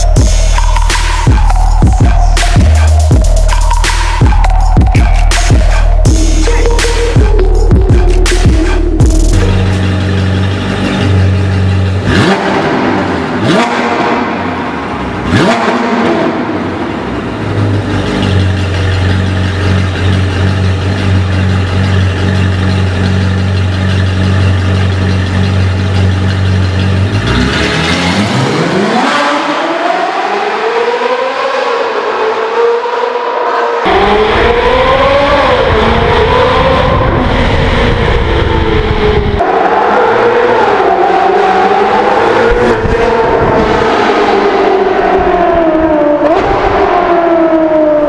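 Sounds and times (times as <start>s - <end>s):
sports car accelerating: 0.0s - 48.0s
sports car engine revving: 0.0s - 48.0s.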